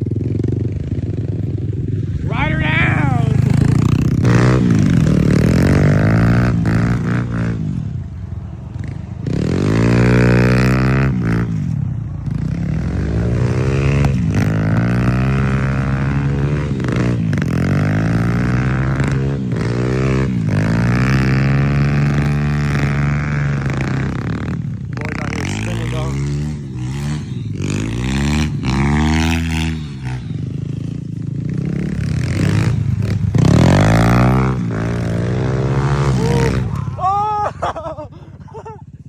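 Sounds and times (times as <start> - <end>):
dirt bike engine revving: 0.0 - 7.6, 12.3 - 39.0.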